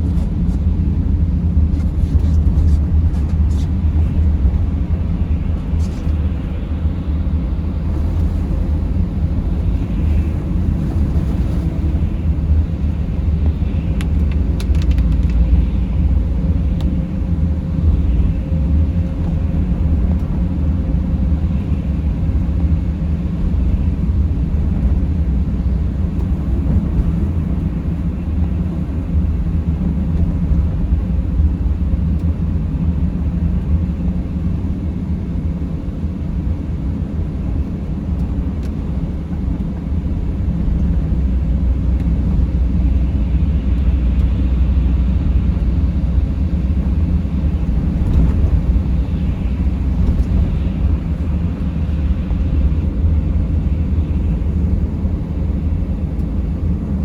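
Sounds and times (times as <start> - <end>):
van engine and road noise: 0.0 - 57.0.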